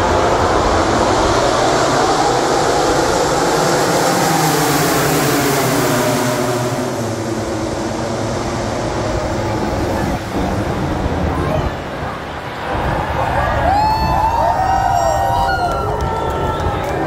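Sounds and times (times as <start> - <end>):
racing motorcycles passing: 0.0 - 17.0.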